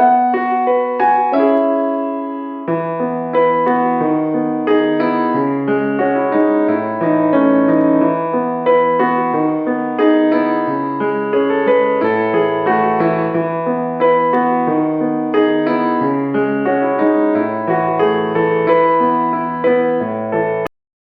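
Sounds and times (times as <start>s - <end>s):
soft piano music: 0.0s - 20.7s.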